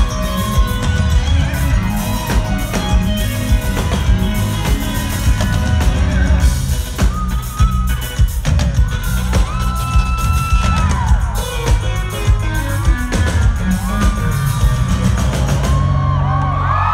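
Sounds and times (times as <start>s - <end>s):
drum kit beat: 0.0s - 16.4s
electric guitar: 0.0s - 16.9s.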